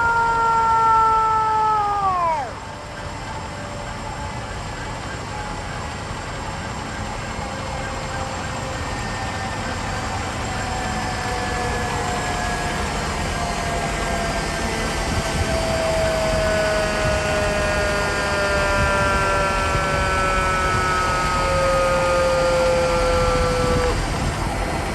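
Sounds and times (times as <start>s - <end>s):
long falling whine: 0.0s - 24.9s
heavy vehicle engine rumbling: 2.1s - 24.9s.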